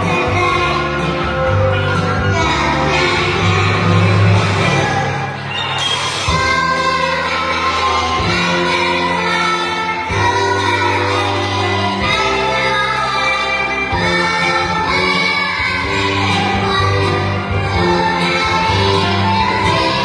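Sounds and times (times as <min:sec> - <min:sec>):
person singing: 0:00.0 - 0:05.5, 0:06.2 - 0:20.0
instrumental accompaniment: 0:00.0 - 0:20.0.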